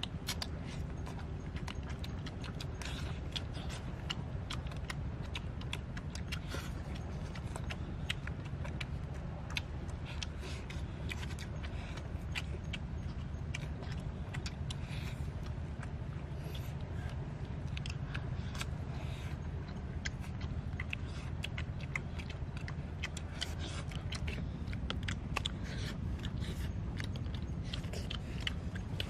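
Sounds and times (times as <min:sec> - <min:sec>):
chewing clicks and smacks: 0:00.0 - 0:29.0
steady low rumble: 0:00.0 - 0:29.0.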